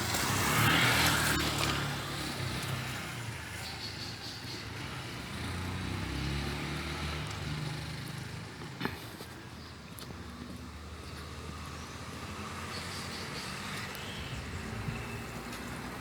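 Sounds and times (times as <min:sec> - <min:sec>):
vehicle engine passing: 0:00.0 - 0:09.4, 0:10.1 - 0:16.0.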